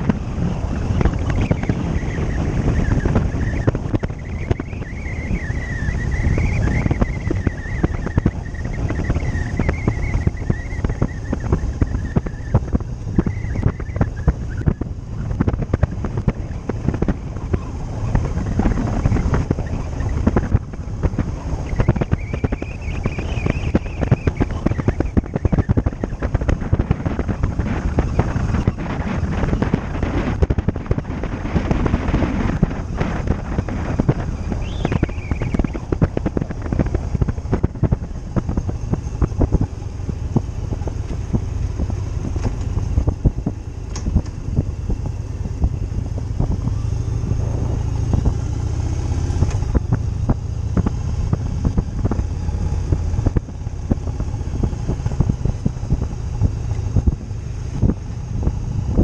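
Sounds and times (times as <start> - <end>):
motorcycle engine and road rumble: 0.0 - 59.0
thin wavering high whine: 0.0 - 59.0
wind buffeting microphone: 0.0 - 59.0.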